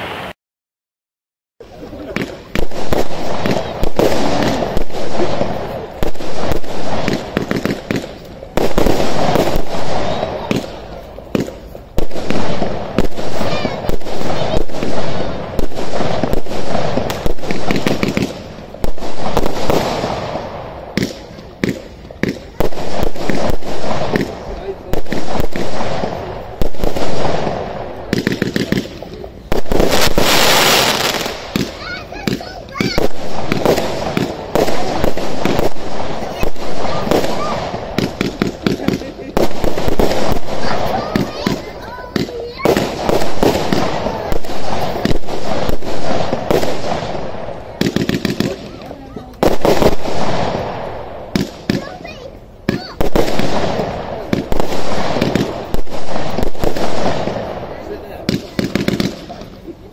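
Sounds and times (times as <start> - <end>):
loud firework reports: 0.0 - 0.4, 1.6 - 59.9
firework pops and crackles: 1.6 - 59.9.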